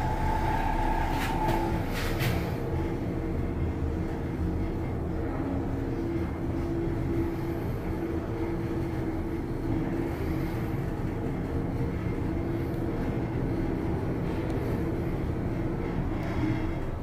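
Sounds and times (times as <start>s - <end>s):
elevator ride rumble: 0.0s - 17.0s
faint steady drone: 0.0s - 17.0s.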